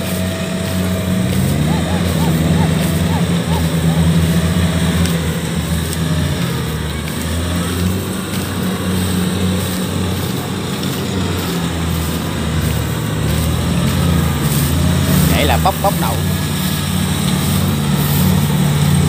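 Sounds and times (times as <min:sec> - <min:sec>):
diesel engines droning: 0:00.0 - 0:19.0
threshing machinery clatter: 0:00.0 - 0:19.0.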